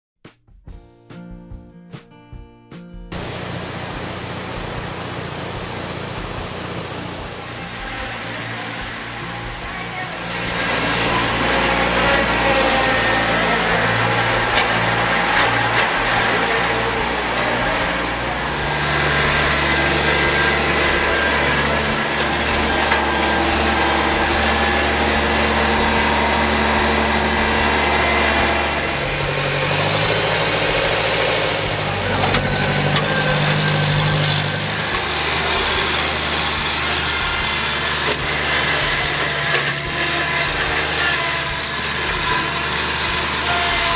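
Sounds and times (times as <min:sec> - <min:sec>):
tractor diesel engine running: 0:03.1 - 0:43.9.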